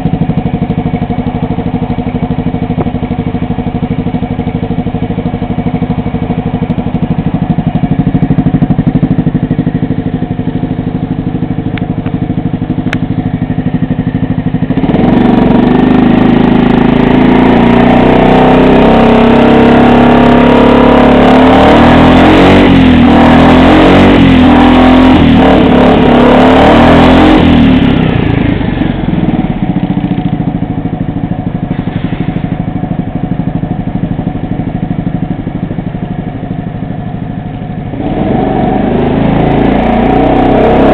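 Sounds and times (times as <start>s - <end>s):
scooter engine idling and revving: 0.0s - 40.9s.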